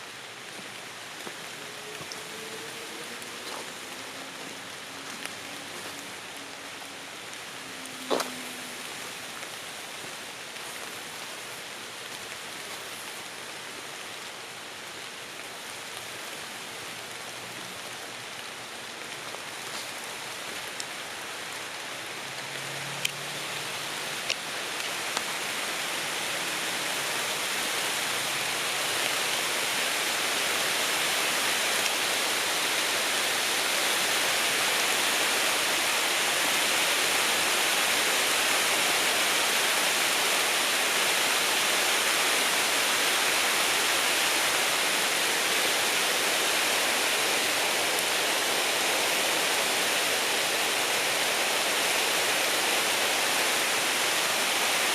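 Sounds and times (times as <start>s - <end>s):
creek water running: 0.0s - 54.9s.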